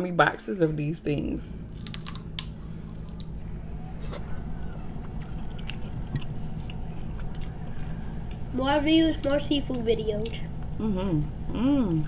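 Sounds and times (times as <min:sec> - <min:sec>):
person chewing food: 0:01.8 - 0:12.0.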